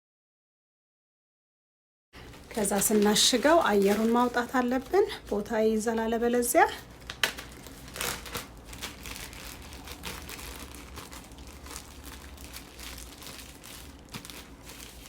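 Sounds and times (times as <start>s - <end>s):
plastic bag crinkling: 2.2s - 15.0s.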